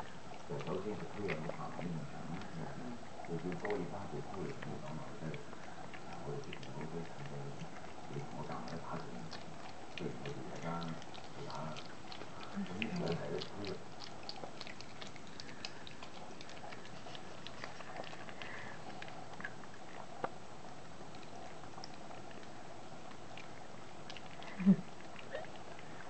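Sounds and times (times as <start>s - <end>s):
puppies chewing treats: 0.0s - 26.0s.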